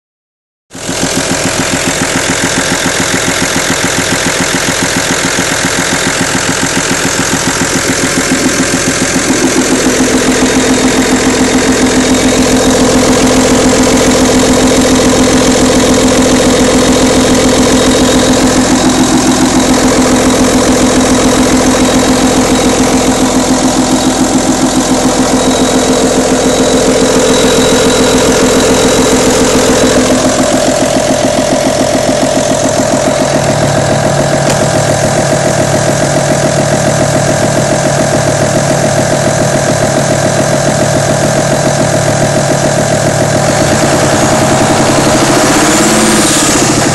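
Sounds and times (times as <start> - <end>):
diesel engine idling with rattling tick: 0.8 - 46.9
steady whine: 6.7 - 46.9.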